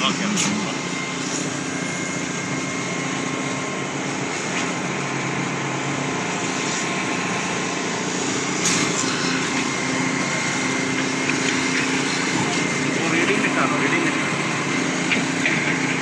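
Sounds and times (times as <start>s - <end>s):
construction machinery engine drone: 0.0s - 16.0s.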